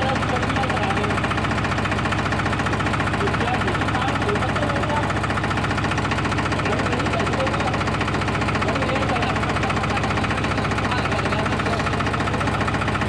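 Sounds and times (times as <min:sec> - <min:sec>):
tractor engine running steadily: 0:00.0 - 0:13.0.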